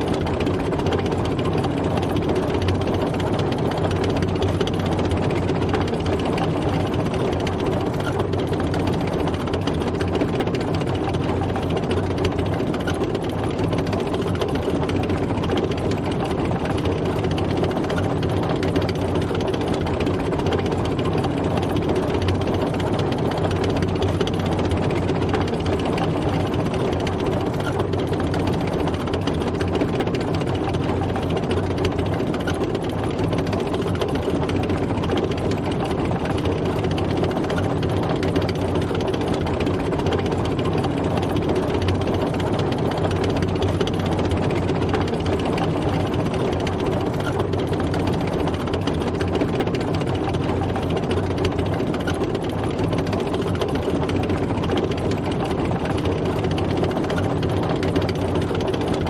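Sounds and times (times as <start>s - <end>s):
tank engine running: 0.0s - 59.0s.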